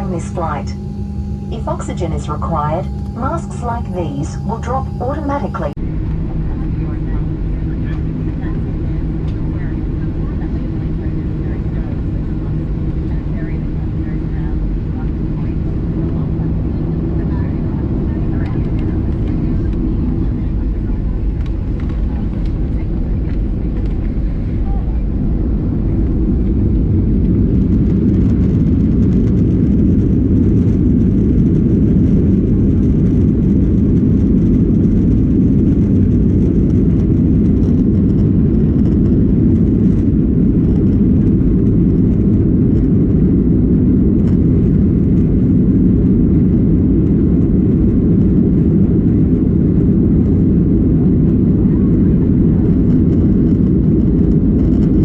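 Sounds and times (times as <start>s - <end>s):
jet engines and airflow rumbling: 0.0s - 55.0s.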